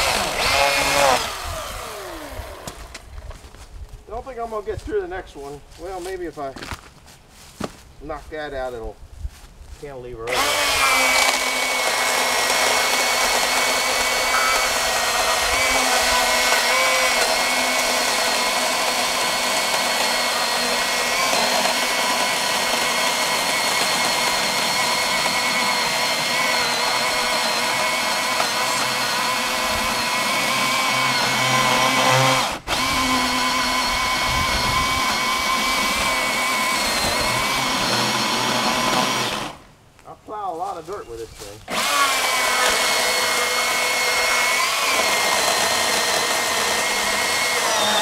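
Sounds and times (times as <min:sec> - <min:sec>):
electric chainsaw cutting log: 0:00.0 - 0:03.2, 0:10.2 - 0:39.7, 0:41.7 - 0:48.0.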